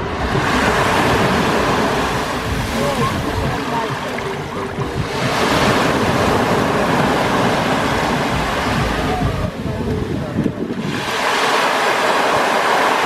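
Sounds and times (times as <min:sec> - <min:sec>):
surf breaking on a beach: 0:00.0 - 0:13.0.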